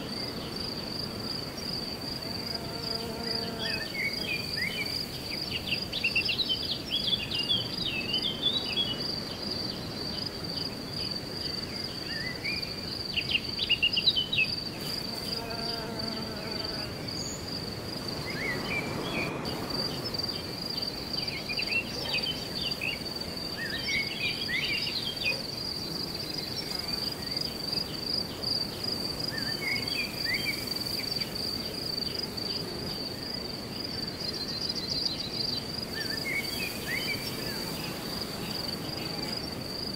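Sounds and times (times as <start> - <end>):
high-pitched insect trill: 0.1 - 39.9.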